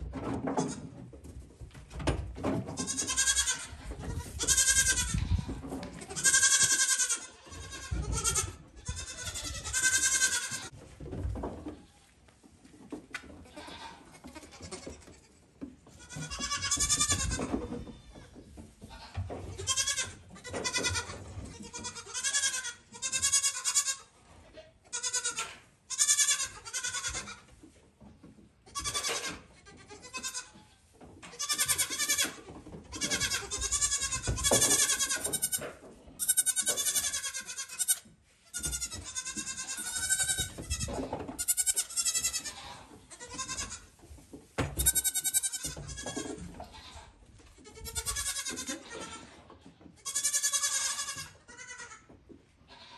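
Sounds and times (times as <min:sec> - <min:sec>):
goat kids bleating: 0:02.8 - 0:10.8, 0:13.4 - 0:27.5, 0:28.6 - 0:44.0, 0:44.7 - 0:52.9.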